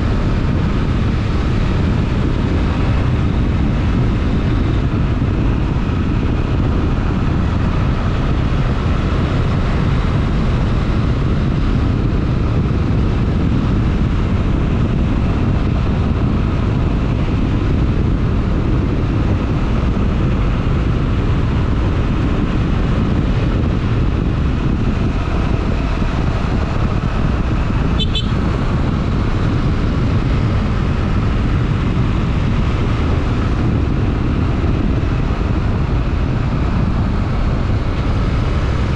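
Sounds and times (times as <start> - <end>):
motorcycle engine running: 0.0 - 38.9
wind rumble on microphone: 0.0 - 38.9.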